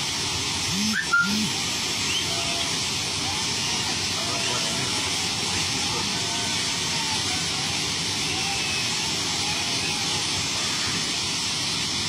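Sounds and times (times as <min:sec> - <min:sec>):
water spray hissing: 0:00.0 - 0:12.0.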